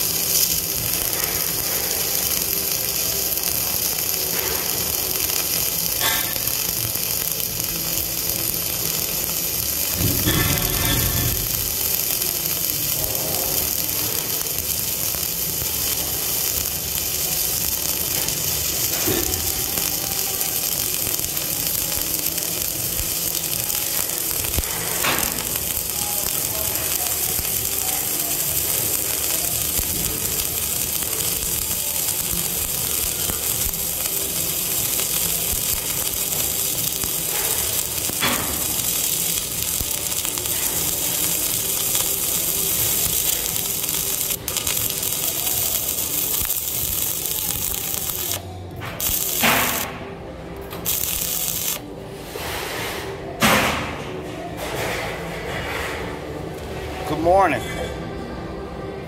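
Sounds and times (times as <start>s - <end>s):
welding arc crackling: 0.0s - 53.9s.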